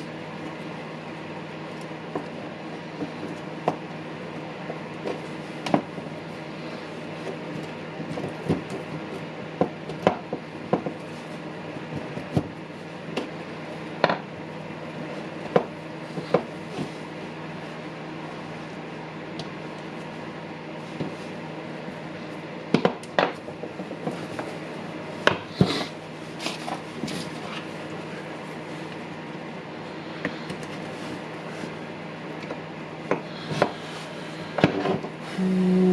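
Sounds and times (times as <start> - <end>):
steady background hum: 0.0 - 35.9.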